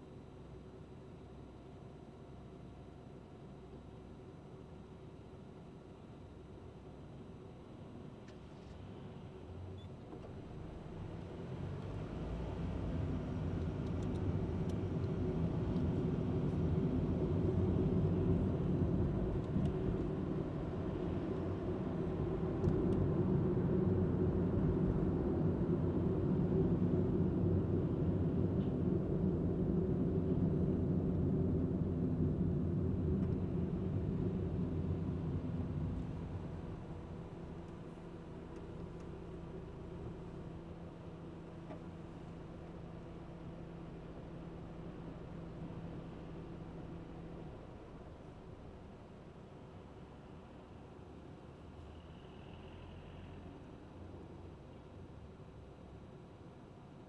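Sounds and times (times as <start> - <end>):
car engine and tyre rumble: 7.6 - 57.0.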